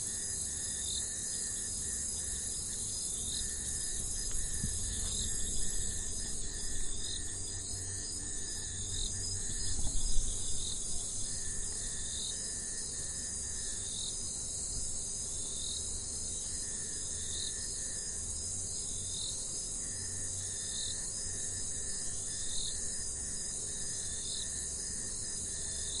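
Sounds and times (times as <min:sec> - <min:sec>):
insect buzzing trill: 0:00.0 - 0:26.0
short insect call: 0:00.0 - 0:26.0.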